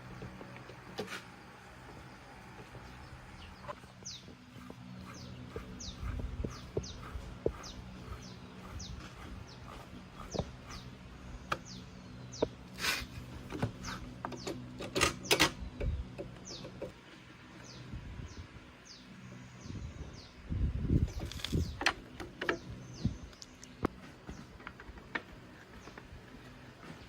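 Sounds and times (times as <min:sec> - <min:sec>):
bird chirping: 0:01.9 - 0:24.8.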